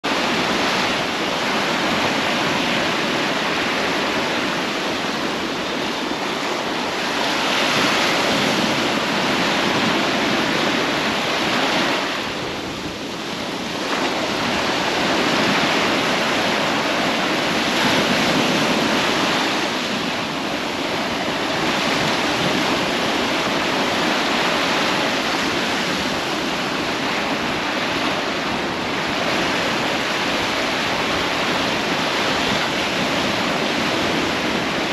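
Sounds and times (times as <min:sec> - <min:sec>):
surf washing onto beach: 0:00.0 - 0:34.9.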